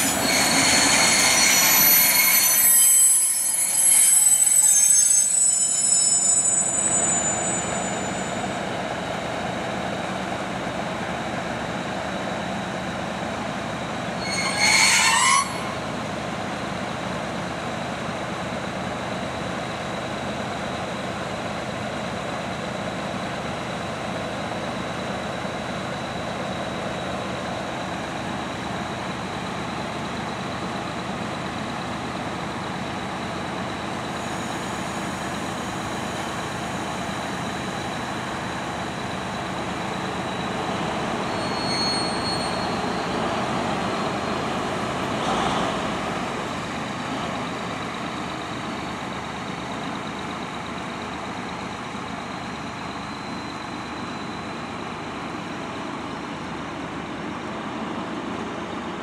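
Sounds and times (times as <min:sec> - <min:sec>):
locomotive engines droning: 0:00.0 - 0:59.0.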